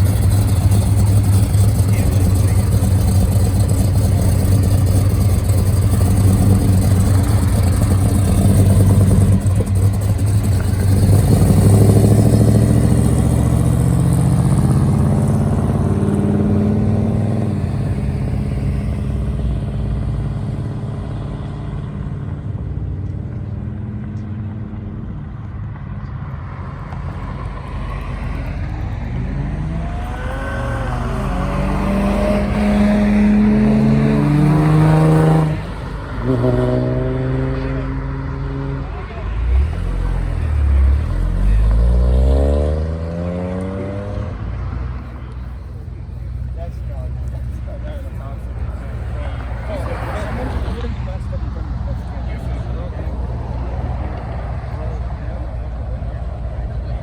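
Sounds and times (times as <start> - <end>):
car engine revving: 0.0 - 22.6, 26.2 - 57.0
another vehicle engine approaching: 0.0 - 57.0.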